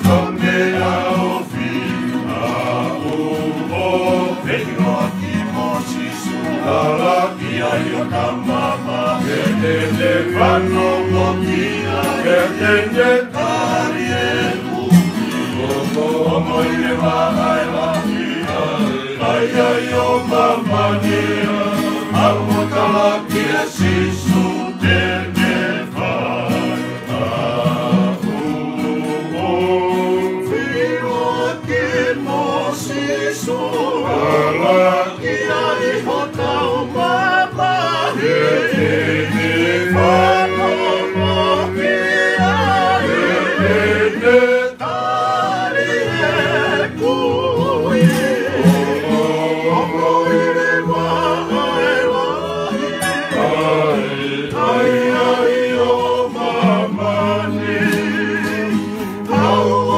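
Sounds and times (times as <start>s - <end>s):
men singing together: 0.0s - 59.9s
strummed acoustic guitars: 0.0s - 59.9s.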